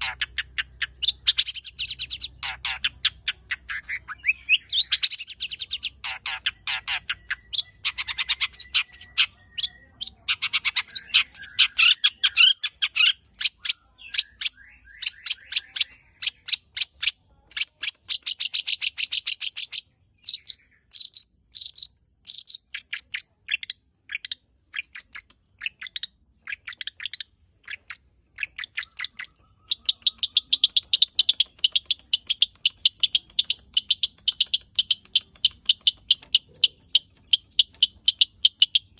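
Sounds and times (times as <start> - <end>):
bird singing rapid chattering notes: 0.0 - 38.9.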